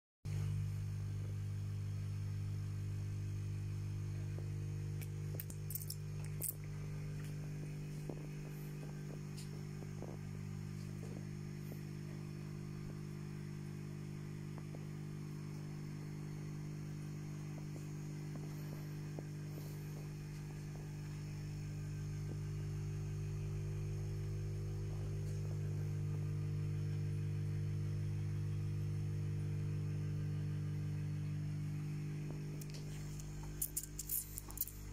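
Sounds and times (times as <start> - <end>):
aquarium equipment humming: 0.3 - 34.9.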